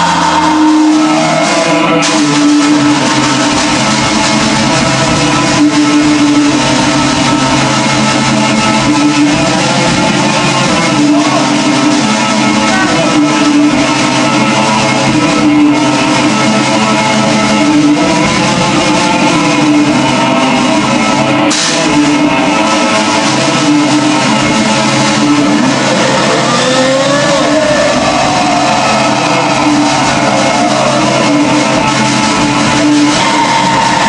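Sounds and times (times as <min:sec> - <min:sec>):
distorted electric guitar riffing: 0:00.0 - 0:34.0
drum kit: 0:00.0 - 0:34.0.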